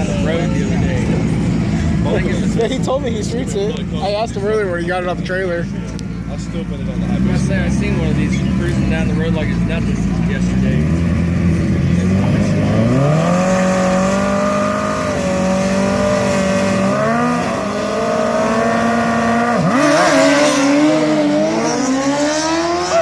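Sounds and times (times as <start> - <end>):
drag racing engines accelerating: 0.0 - 23.0.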